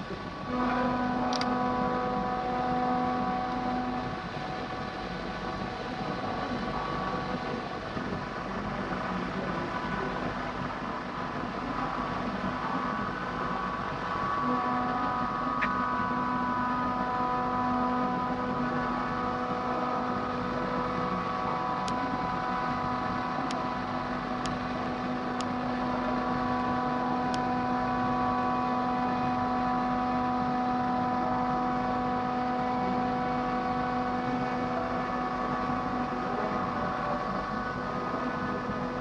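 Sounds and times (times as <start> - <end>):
milling machine whine: 0.0 - 39.0.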